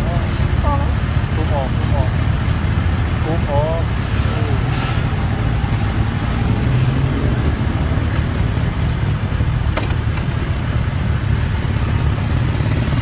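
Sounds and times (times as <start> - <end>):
motorcycle engines in traffic: 0.0 - 13.0.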